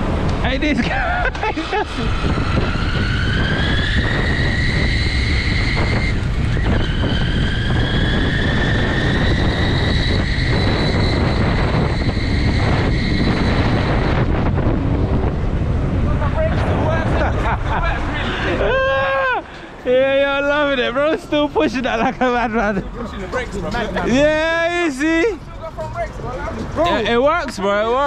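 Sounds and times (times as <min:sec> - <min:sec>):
wind buffeting microphone: 0:00.0 - 0:27.4.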